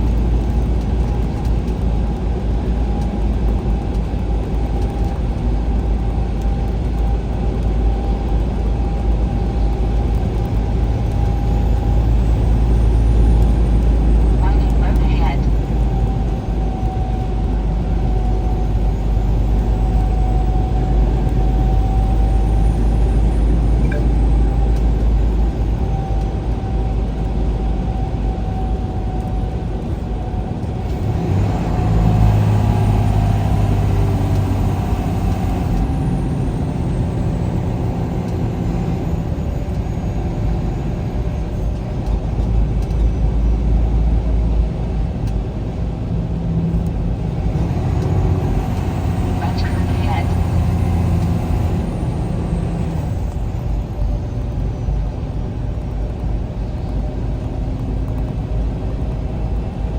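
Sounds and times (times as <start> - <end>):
engine and road noise rumble: 0.0 - 59.9.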